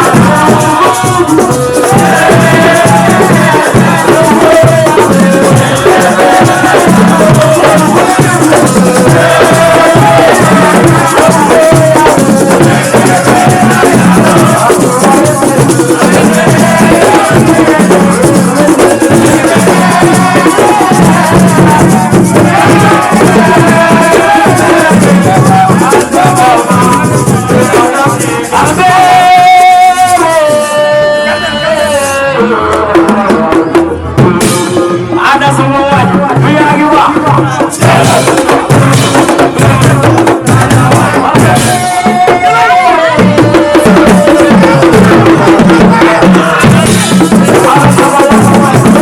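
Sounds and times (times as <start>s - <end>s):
music with steady beat: 0.0s - 49.0s
shaker-like percussion: 0.0s - 49.0s.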